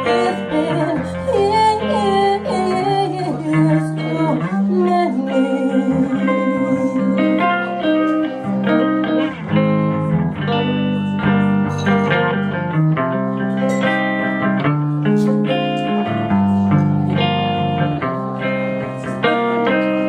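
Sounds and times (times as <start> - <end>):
guitar playing chords: 0.0 - 20.0.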